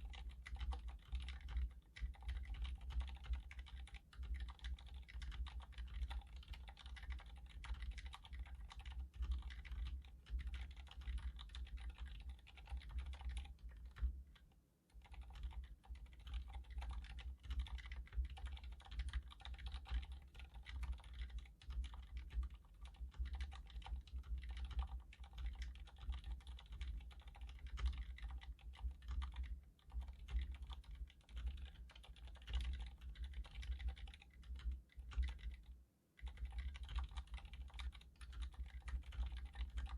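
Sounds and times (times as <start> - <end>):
fast typing on mechanical keyboard: 0.0 - 14.2, 14.9 - 39.9.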